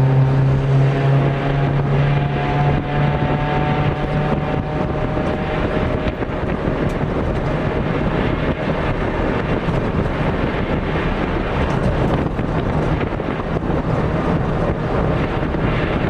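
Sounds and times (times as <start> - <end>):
car engine running: 0.0 - 16.0
road and wind noise: 0.0 - 16.0.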